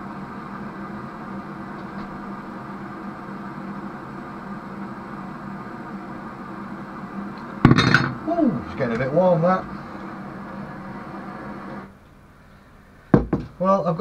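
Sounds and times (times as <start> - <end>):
blowtorch flame hissing: 0.0 - 12.0.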